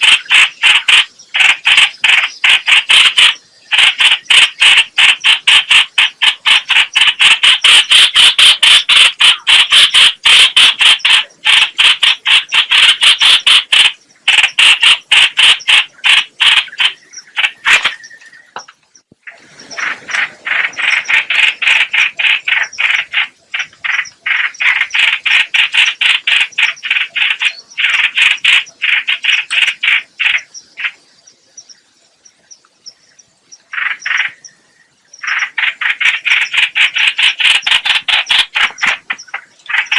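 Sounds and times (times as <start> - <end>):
starling giving harsh calls: 0.0 - 18.4, 19.6 - 31.0, 33.7 - 34.5, 35.2 - 39.9.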